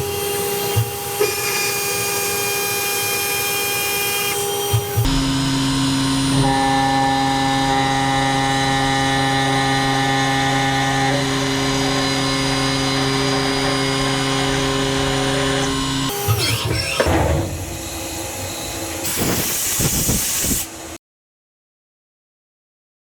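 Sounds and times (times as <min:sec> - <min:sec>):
milling machine spindle whine: 0:00.0 - 0:21.0.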